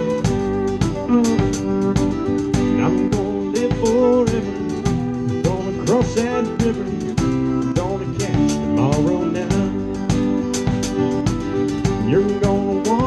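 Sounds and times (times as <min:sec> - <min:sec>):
bass: 0:00.0 - 0:13.0
drum kit beat: 0:00.0 - 0:13.0
fiddle sliding between notes: 0:00.0 - 0:13.0
guitar: 0:00.0 - 0:13.0.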